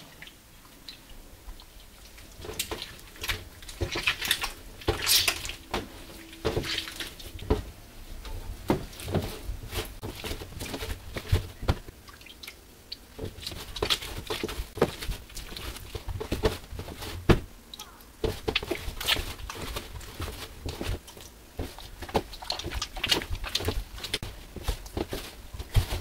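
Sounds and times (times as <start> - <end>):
wet dough slapping and squishing: 1.6 - 26.0.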